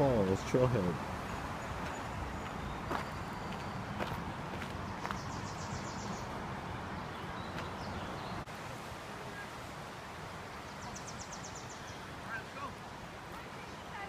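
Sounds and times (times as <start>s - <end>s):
constant outdoor rush: 0.0s - 14.0s.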